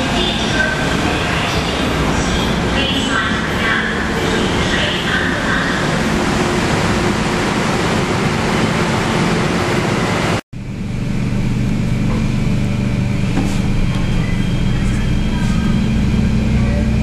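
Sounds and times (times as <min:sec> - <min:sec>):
train carriage low hum: 0:00.0 - 0:17.0
train passing with rushing rumble: 0:00.0 - 0:17.0.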